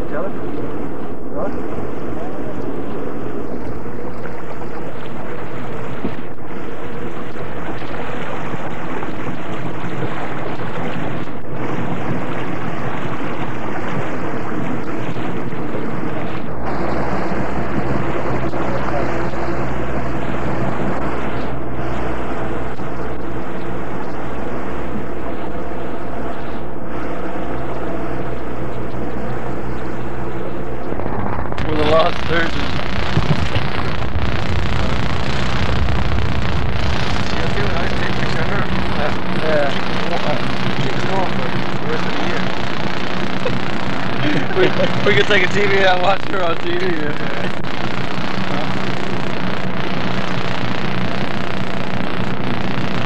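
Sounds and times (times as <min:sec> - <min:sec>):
boat engine running: 0:00.0 - 0:53.0
noisy rush: 0:00.0 - 0:53.0.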